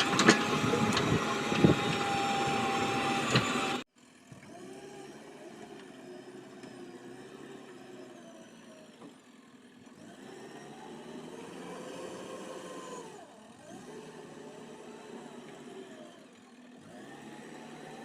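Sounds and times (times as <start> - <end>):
diesel engine revving: 0.0 - 9.0, 9.7 - 18.0.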